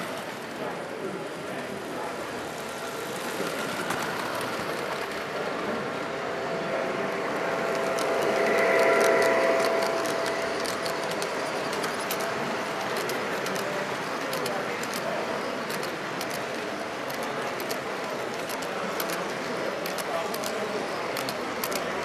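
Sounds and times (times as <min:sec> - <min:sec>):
model train motor hum: 0:00.0 - 0:22.0.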